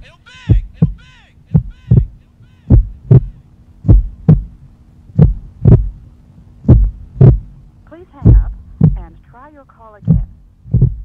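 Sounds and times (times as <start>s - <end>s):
heartbeat thumps: 0.0s - 7.6s, 8.2s - 9.2s, 10.0s - 11.0s
steady low hum: 0.0s - 11.0s.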